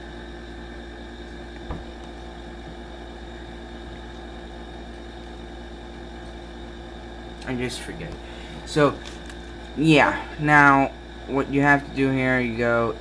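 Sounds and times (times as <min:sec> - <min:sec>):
low background hum with hiss: 0:00.0 - 0:13.0.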